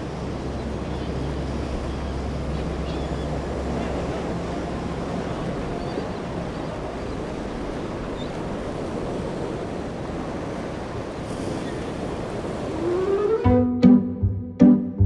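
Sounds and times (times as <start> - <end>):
wind buffeting microphone: 0.0 - 13.4
boat engine running low: 0.0 - 13.8
waves and surf rushing: 0.0 - 14.0.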